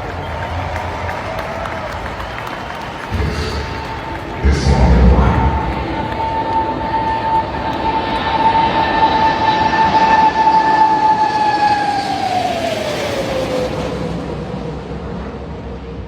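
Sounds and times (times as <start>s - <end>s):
jet aircraft flying overhead: 0.0s - 16.0s.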